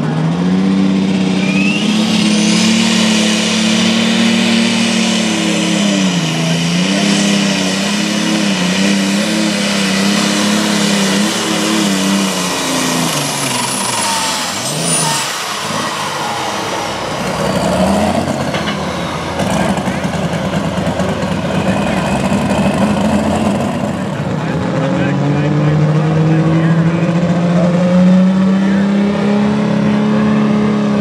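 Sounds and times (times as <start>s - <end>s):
tractor engine at high revs: 0.0s - 31.0s.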